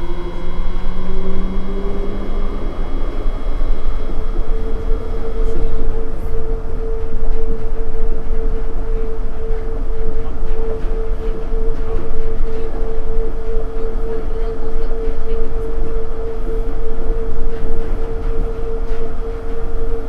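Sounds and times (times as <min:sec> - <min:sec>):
steady mid-pitched hum: 0:00.0 - 0:20.0
train tyres rumbling on guideway: 0:00.0 - 0:20.0.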